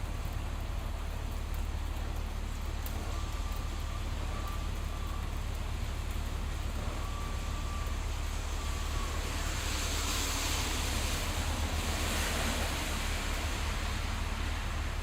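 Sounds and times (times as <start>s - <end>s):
vehicle rumble and road noise: 0.0s - 15.0s.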